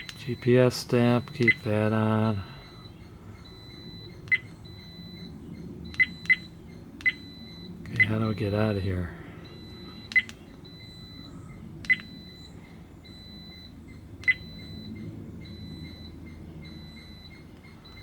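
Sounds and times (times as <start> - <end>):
short high-pitched beeps: 1.2 - 1.7, 2.6 - 8.5, 9.5 - 18.0.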